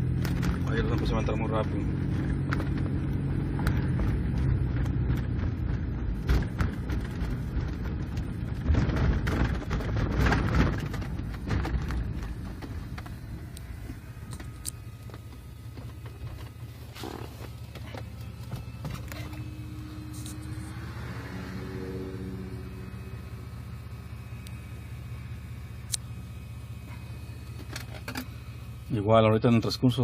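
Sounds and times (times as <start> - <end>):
car engine accelerating: 0.0 - 30.0
transmission shifting gears: 0.0 - 30.0.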